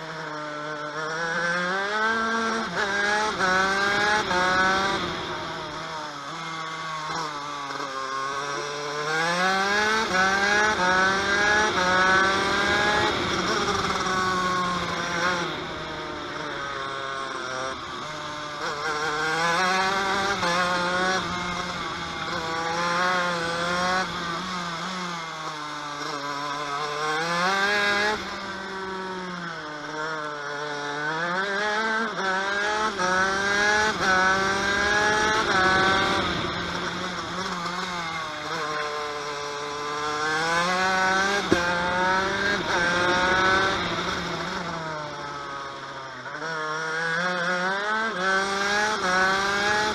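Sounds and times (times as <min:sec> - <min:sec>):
kart engine revving: 0:00.0 - 0:49.9.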